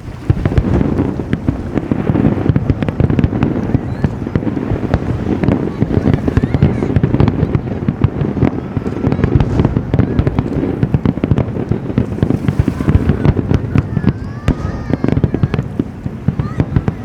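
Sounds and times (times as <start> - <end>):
fireworks booms and crackling: 0.0 - 17.0.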